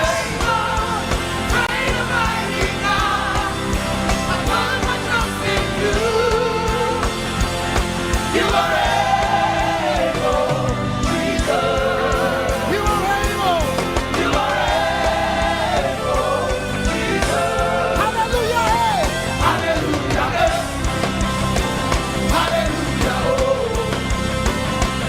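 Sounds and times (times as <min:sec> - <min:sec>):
gospel band with drum beat: 0:00.0 - 0:25.0.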